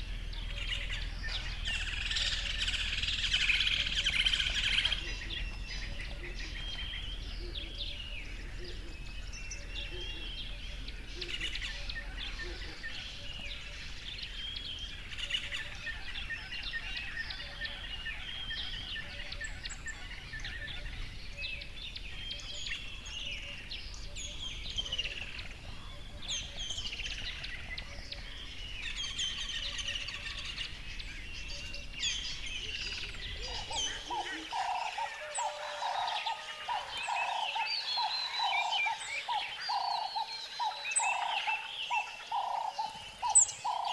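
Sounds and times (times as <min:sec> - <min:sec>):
birds chirping and whistling: 0:00.0 - 0:43.9
low pulsing bird call: 0:00.0 - 0:43.9.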